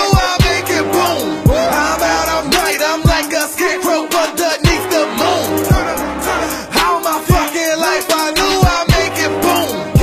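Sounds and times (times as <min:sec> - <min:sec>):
hip hop beat with melody: 0:00.0 - 0:10.0.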